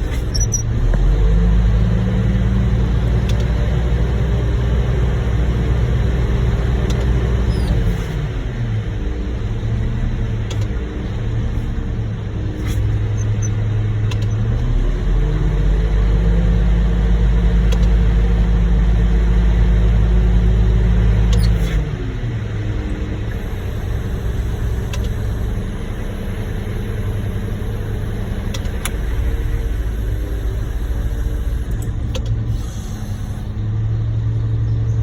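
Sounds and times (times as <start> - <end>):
diesel engine revving: 0.0 - 35.0.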